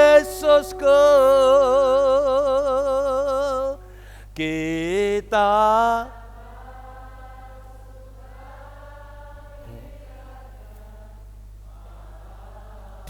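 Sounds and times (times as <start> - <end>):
congregation singing softly: 0.0 - 13.0
low electrical hum: 0.0 - 13.0.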